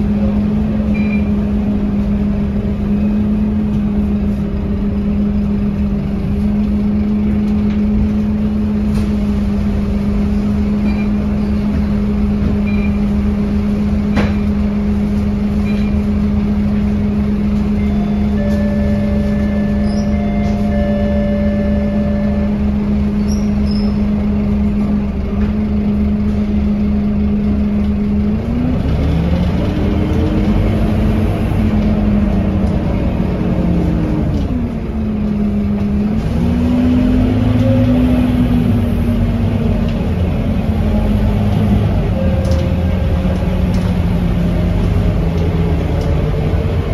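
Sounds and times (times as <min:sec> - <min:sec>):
bus diesel engine idling and revving: 0:00.0 - 0:46.9.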